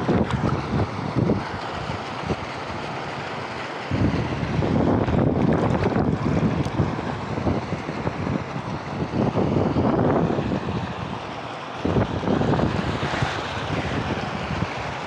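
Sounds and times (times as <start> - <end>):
water rushing and splashing: 0.0 - 15.0
wind buffeting microphone: 0.0 - 15.0.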